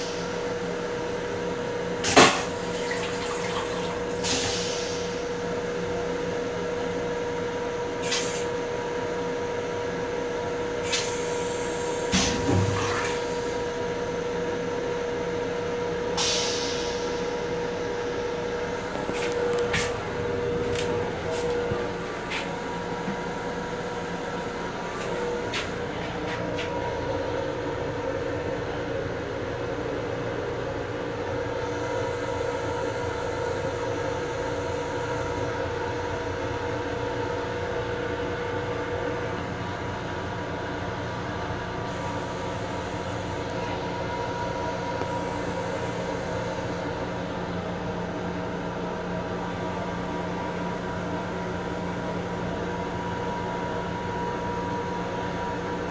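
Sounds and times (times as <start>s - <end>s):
electric railcar hum: 0.0s - 55.9s.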